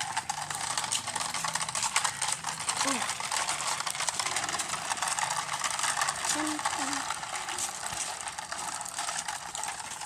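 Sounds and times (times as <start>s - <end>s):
rattling gear noise: 0.0s - 10.0s
toy car motor whirring: 0.0s - 10.0s.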